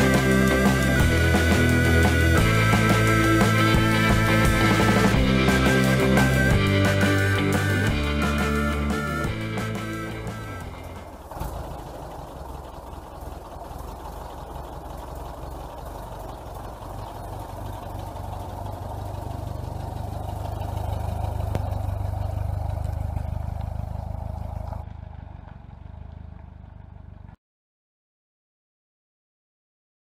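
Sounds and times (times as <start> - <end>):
vehicle engine passing: 0.0 - 27.4.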